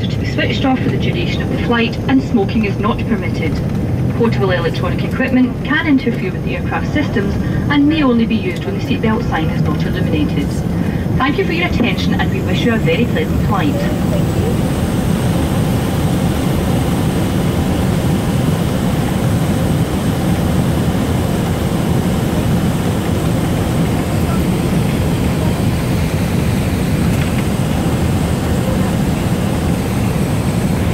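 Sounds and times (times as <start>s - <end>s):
turboprop engine drone: 0.0s - 30.9s.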